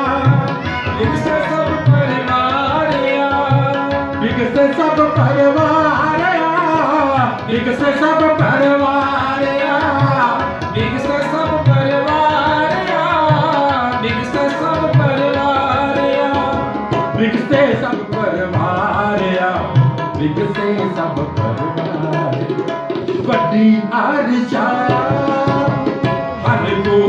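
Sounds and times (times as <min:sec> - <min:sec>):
harmoniums playing reedy melody: 0:00.0 - 0:27.0.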